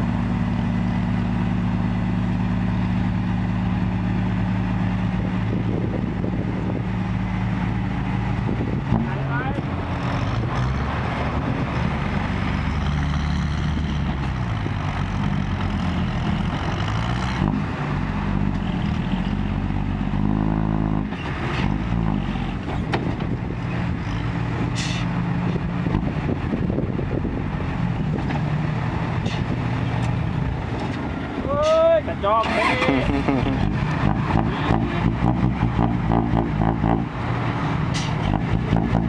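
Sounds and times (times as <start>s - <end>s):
truck diesel engine under load: 0.0s - 39.0s.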